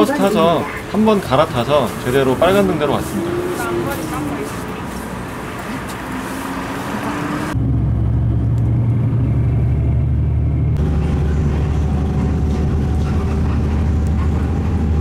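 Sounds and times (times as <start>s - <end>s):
bus engine rumble: 0.0s - 15.0s
street traffic: 0.0s - 15.0s.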